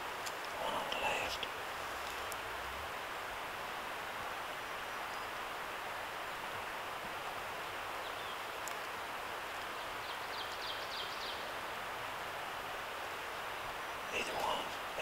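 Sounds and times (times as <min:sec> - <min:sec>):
woodland background hiss: 0:00.0 - 0:15.0.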